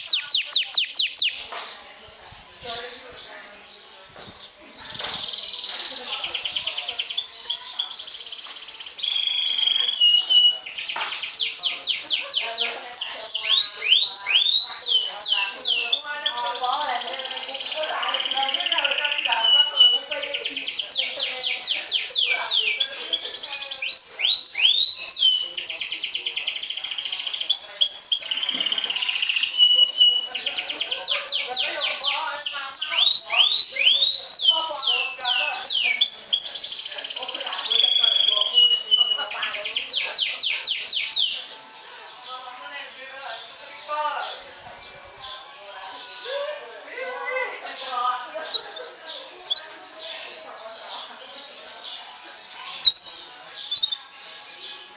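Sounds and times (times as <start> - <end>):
canary singing: 0.0 - 1.7, 4.9 - 54.9.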